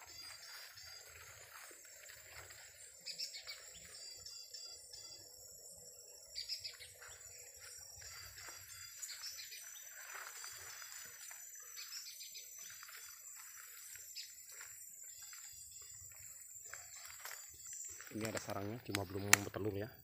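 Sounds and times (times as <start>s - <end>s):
birds chirping: 0.0s - 20.0s
high-pitched insect drone: 0.0s - 20.0s.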